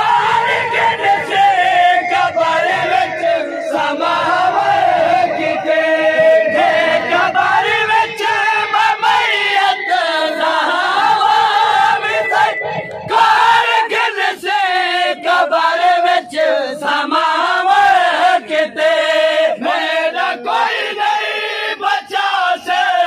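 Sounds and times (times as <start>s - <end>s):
men chanting in unison: 0.0s - 23.0s.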